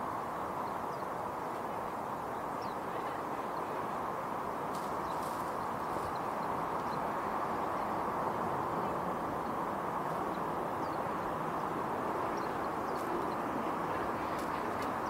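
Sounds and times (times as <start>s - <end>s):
distant traffic rumble: 0.0s - 15.0s
songbirds chirping: 0.0s - 15.0s.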